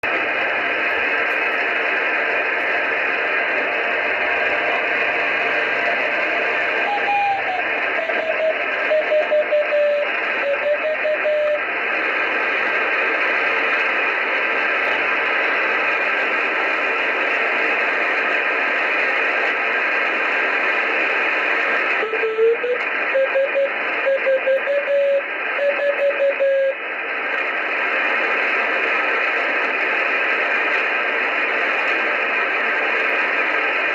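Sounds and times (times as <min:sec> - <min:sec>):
radio receiver hiss: 0:00.0 - 0:33.9.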